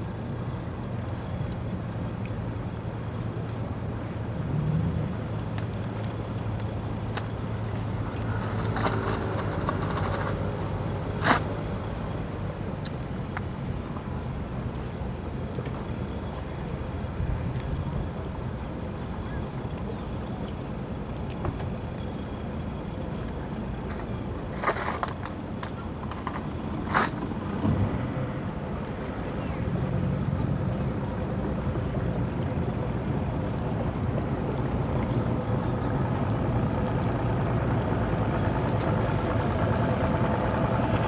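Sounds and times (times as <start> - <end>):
engine humming: 0.0 - 41.0.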